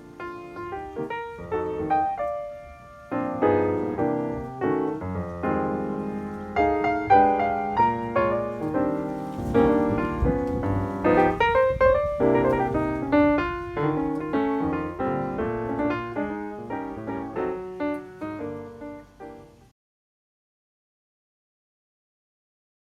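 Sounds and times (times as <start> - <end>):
piano music: 0.0 - 19.7.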